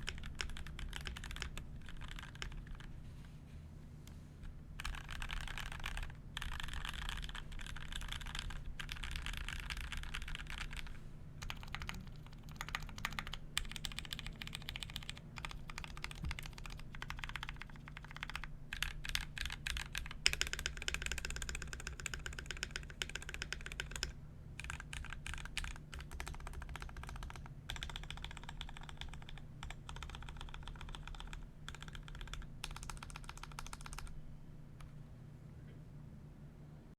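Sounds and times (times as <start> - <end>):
typing on mechanical keyboard: 0.0 - 2.9, 4.8 - 34.2
low steady hum: 0.0 - 36.9.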